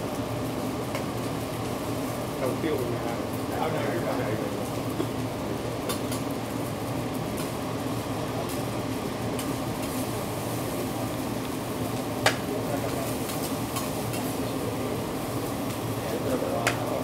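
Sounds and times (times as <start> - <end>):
food sizzling on a griddle: 0.0 - 17.0
ventilation hum: 0.0 - 17.0.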